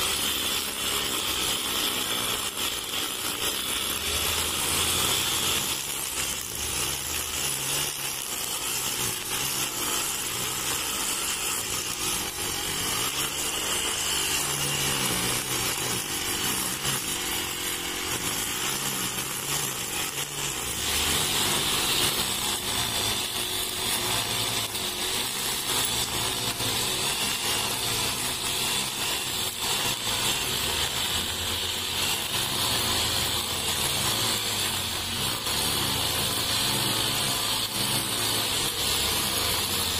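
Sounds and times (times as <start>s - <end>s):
brush cutter engine: 0.0s - 39.9s
trimmer line cutting grass: 0.0s - 39.9s.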